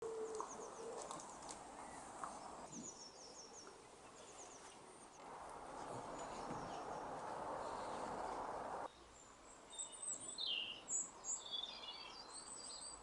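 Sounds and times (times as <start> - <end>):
bird singing: 0.0 - 5.2, 5.8 - 13.0
outdoor background hiss: 0.0 - 13.0.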